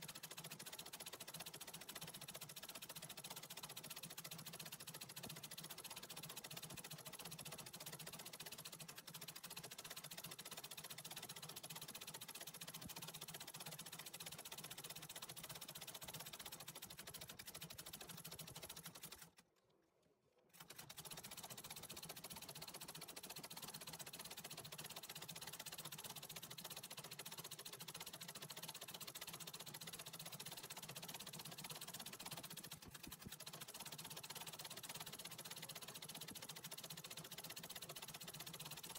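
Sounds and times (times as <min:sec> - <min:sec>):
treadle sewing machine running: 0:00.0 - 0:19.4, 0:20.5 - 0:38.9.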